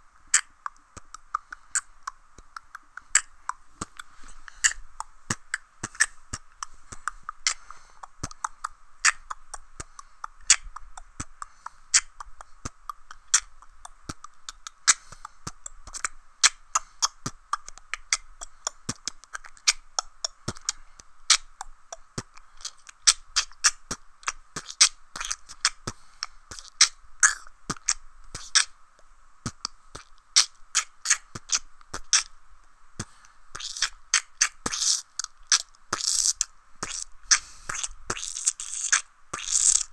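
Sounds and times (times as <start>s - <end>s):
person beatboxing: 0.0s - 28.8s, 29.5s - 32.4s, 33.0s - 39.9s.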